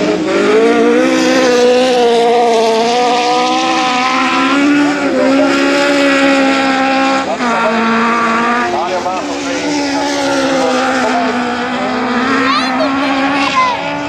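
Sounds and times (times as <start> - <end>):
car engine at high revs: 0.0 - 14.0.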